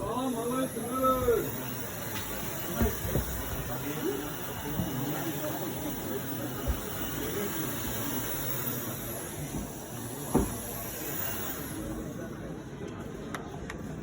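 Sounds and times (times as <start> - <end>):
vacuum cleaner hissing: 0.0 - 12.2.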